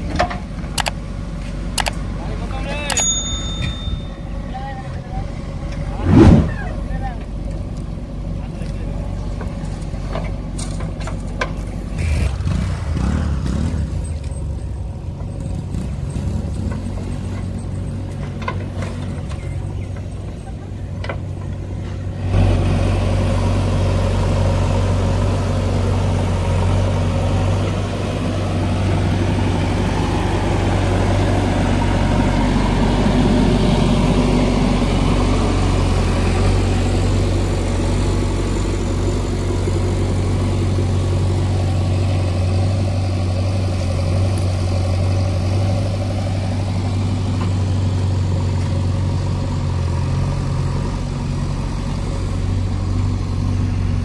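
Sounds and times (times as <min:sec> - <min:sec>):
backhoe working: 0:00.0 - 0:54.0
diesel engines running: 0:00.0 - 0:54.0.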